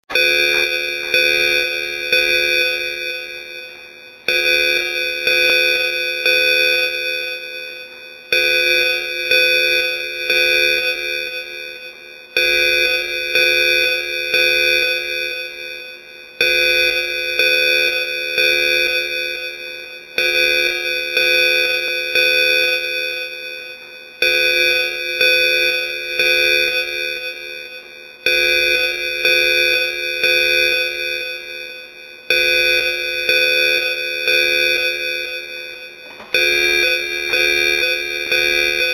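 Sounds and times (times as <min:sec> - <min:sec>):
bell-like alarm chime: 0:00.1 - 0:38.9.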